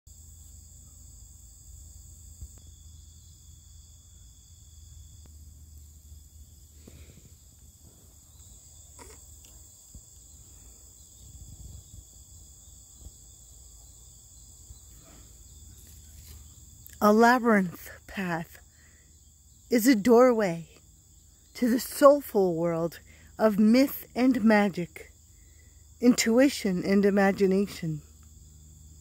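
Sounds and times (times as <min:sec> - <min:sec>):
crickets trilling: 0:00.1 - 0:29.0.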